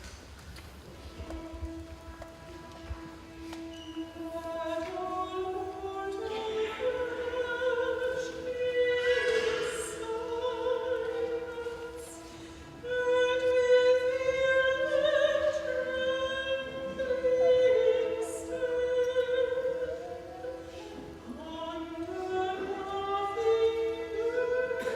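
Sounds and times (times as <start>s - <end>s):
choir singing sacred music: 1.0s - 24.9s.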